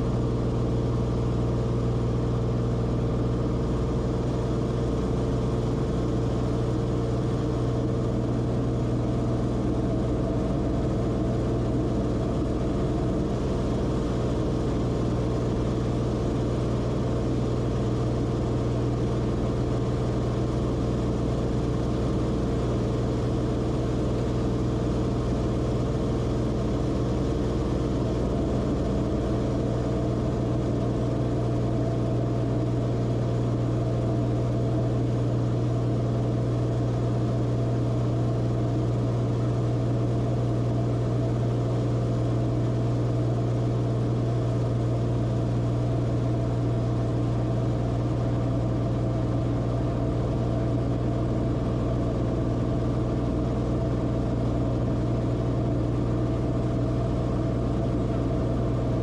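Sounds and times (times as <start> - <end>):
propeller aircraft engine droning: 0.0 - 59.0.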